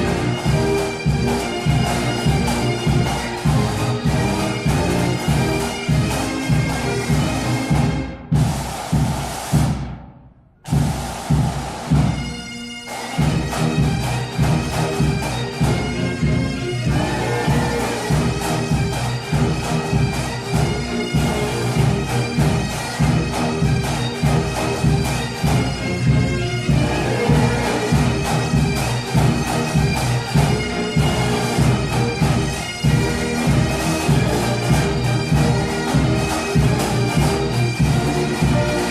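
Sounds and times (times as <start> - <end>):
bagpipes playing a march: 0.0 - 8.8, 10.7 - 38.9
drum beat: 0.0 - 10.0, 10.6 - 12.4, 13.2 - 38.9.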